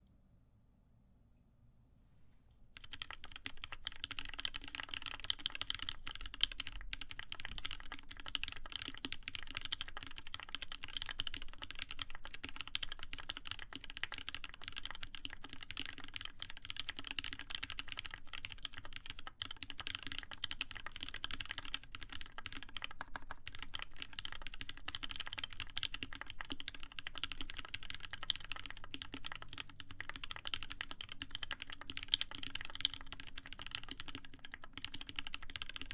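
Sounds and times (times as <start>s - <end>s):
fast typing on mechanical keyboard: 2.8s - 35.9s.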